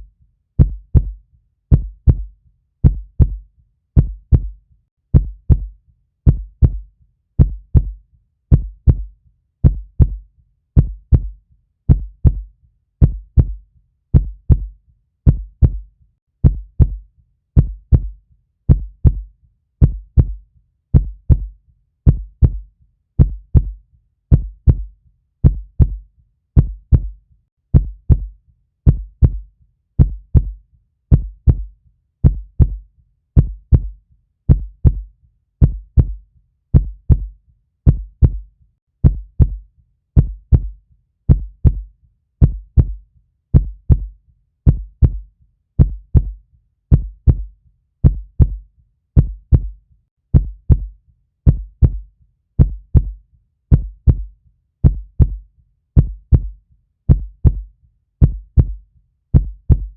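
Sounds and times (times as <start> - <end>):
heartbeat thumps: 0.6 - 3.4, 4.0 - 10.2, 10.8 - 17.0, 17.6 - 26.0, 26.6 - 32.8, 33.4 - 39.6, 40.2 - 44.1, 44.7 - 48.6, 49.2 - 55.4, 56.0 - 59.9.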